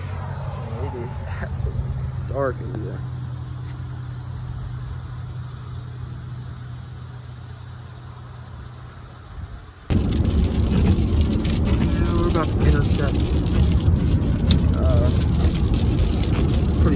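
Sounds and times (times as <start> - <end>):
car engine idling: 0.0 - 16.9
rain and road noise in car: 0.0 - 16.9.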